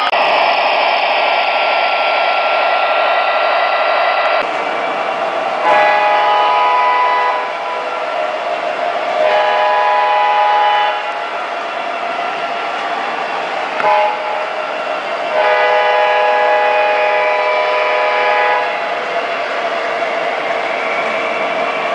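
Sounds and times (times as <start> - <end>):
diesel locomotive rumble: 0.0 - 21.9.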